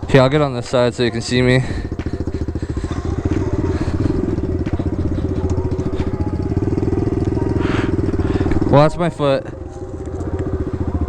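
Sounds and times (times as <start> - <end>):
small engine putter: 0.0 - 8.9, 9.5 - 11.0.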